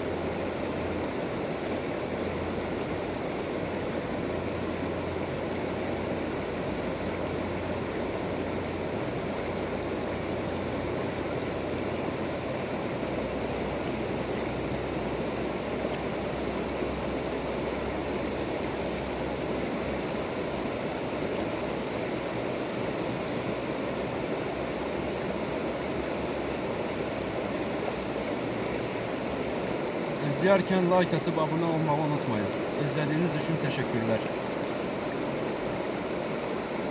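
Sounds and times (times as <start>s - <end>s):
river flowing over stones: 0.0s - 36.9s.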